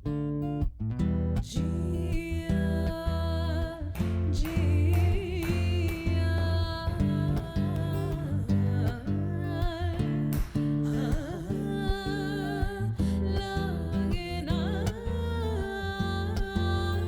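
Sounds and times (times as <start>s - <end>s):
plucked guitar: 0.0s - 17.0s.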